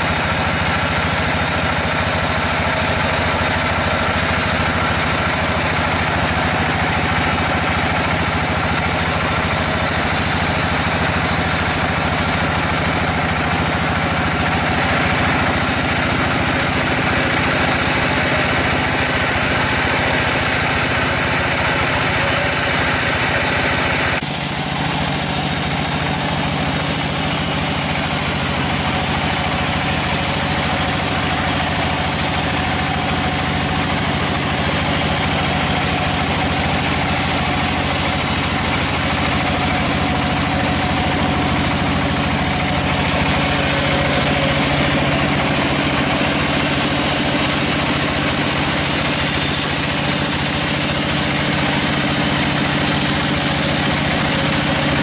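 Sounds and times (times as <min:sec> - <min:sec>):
saw blade hissing through log: 0:00.0 - 0:23.1, 0:24.2 - 0:55.0
band saw machine drone: 0:00.0 - 0:55.0.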